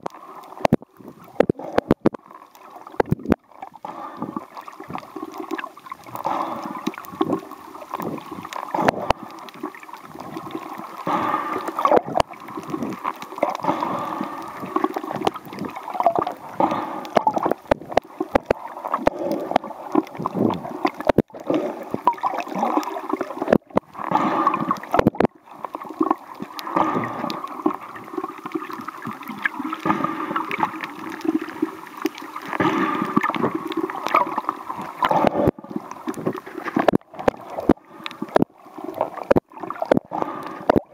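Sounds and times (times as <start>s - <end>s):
water sloshing underwater: 0.0s - 40.9s.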